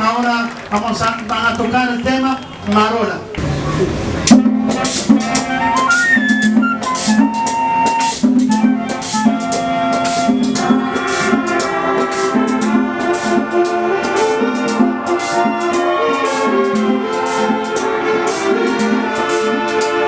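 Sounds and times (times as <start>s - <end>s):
live band playing merengue: 3.4s - 20.0s.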